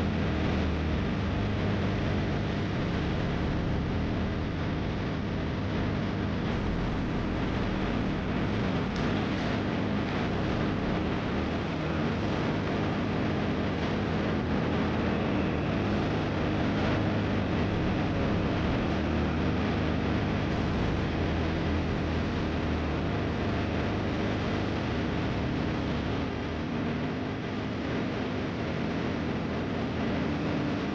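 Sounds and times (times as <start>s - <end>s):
road and wind noise: 0.0s - 30.9s
vehicle engine running: 0.0s - 30.9s.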